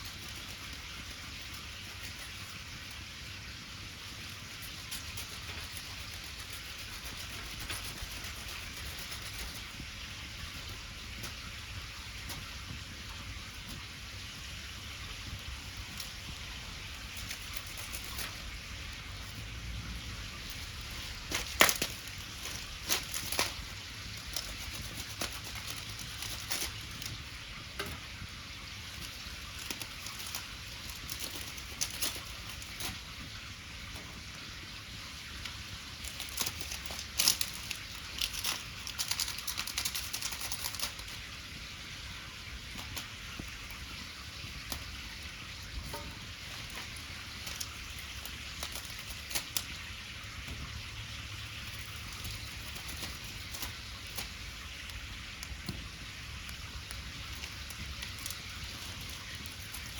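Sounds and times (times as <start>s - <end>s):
steady hiss of fire: 0.0s - 59.9s
wood fire crackling: 0.0s - 59.9s.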